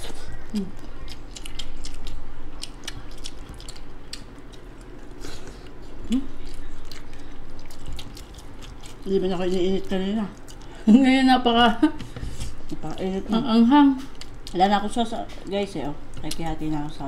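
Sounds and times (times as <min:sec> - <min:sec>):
wet chewing: 0:00.0 - 0:11.0, 0:14.0 - 0:17.0.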